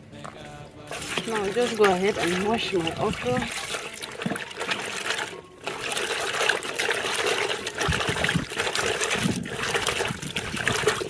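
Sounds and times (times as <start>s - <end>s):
water splashing and trickling: 0.8s - 11.0s.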